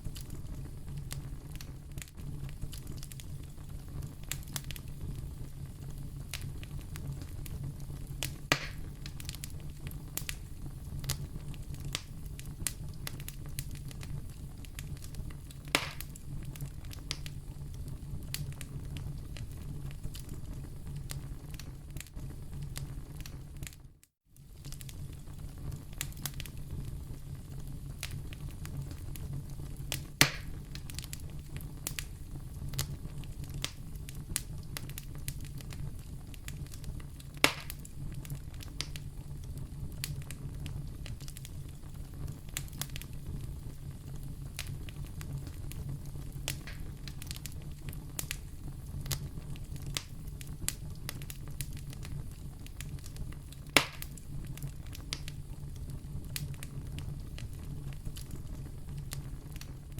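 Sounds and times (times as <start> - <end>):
fire crackling in a fireplace: 0.0 - 59.9
loud pops of fire: 0.0 - 59.9.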